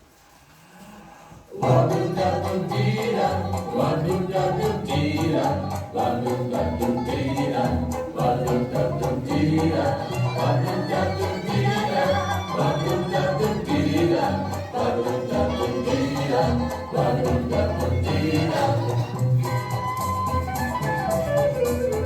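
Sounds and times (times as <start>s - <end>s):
music with bass line and beat: 1.8s - 22.0s.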